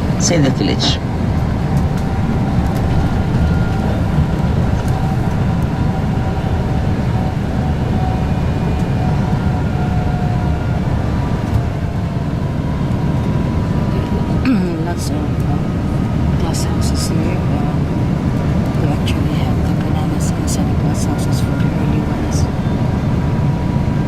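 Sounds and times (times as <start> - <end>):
coach engine and road rumble: 0.0 - 24.0.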